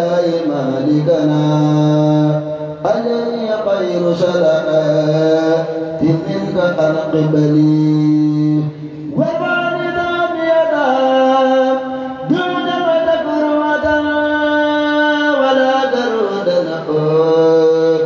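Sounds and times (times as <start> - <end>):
man chanting devotional poem: 0.0 - 18.0.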